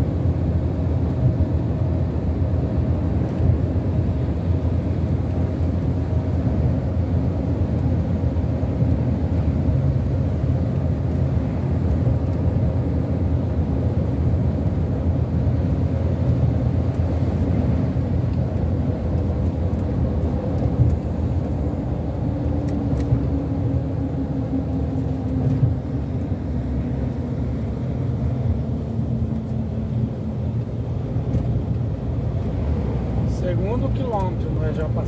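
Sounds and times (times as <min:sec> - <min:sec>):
tyre and engine rumble: 0:00.0 - 0:35.0.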